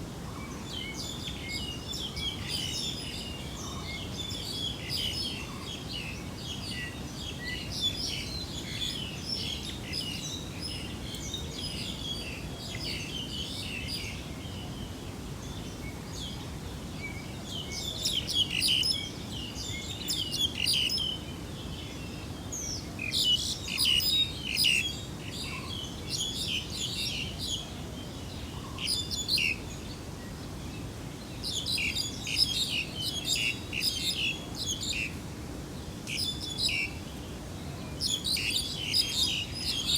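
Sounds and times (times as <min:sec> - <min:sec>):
low background noise: 0:00.0 - 0:39.9
small birds chirping: 0:00.3 - 0:39.9.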